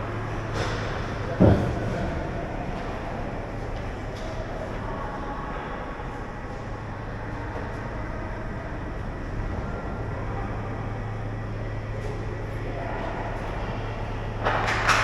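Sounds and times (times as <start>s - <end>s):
ice rink ambience rumble: 0.0s - 15.0s.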